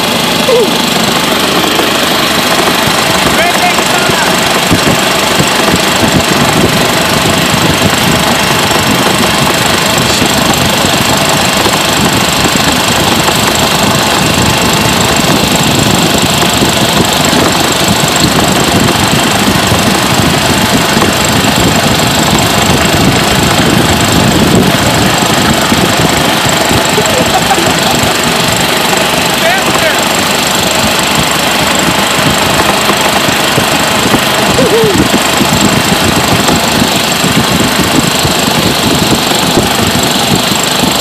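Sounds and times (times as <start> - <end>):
dense fast rattle: 0.0 - 41.0
golf cart engine running: 0.0 - 41.0.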